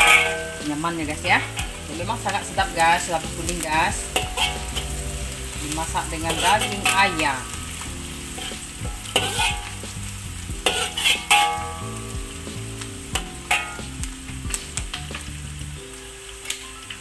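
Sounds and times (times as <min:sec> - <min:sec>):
metal ladle scraping wok: 0:00.0 - 0:15.8
food sizzling in hot oil: 0:00.0 - 0:17.0.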